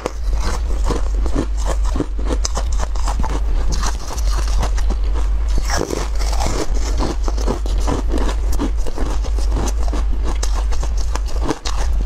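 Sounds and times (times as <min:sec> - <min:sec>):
crunchy chewing of frozen treat: 0:00.0 - 0:12.0.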